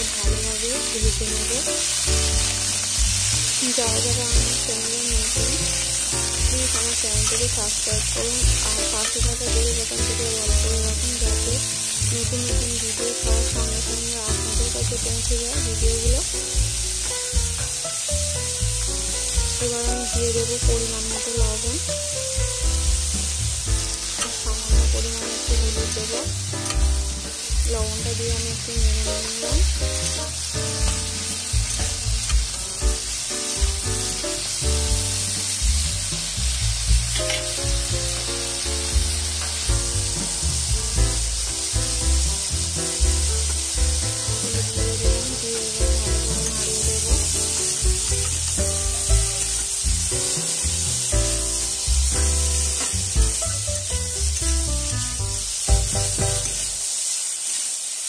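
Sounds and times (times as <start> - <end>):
background music: 0.0 - 56.9
eggplant sizzling in oil: 0.0 - 58.0.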